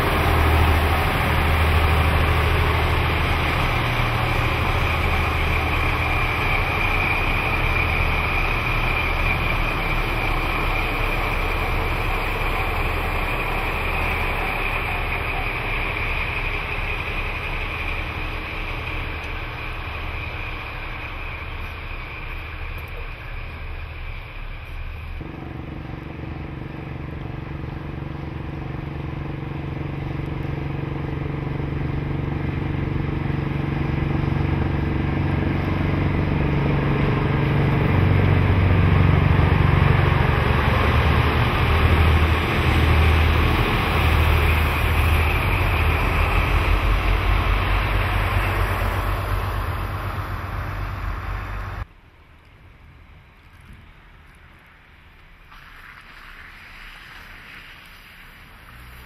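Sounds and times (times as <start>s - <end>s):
diesel locomotive passing: 0.0s - 59.0s.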